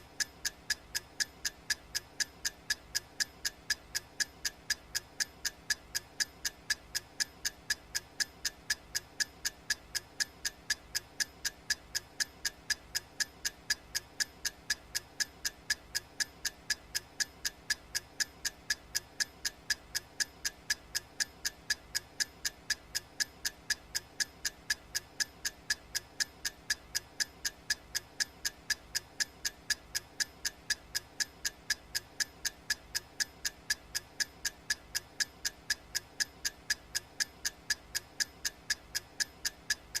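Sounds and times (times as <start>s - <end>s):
clock ticking: 0.0s - 40.0s.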